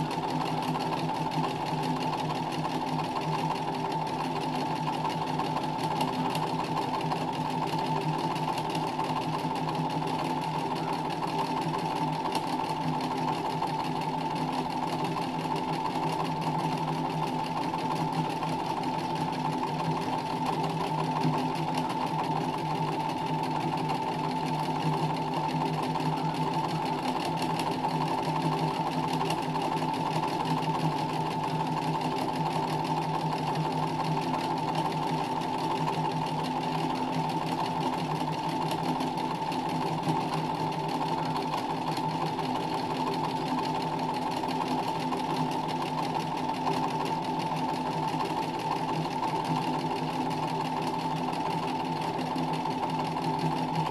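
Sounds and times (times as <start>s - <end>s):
sewing machine stitching: 0.0s - 53.9s.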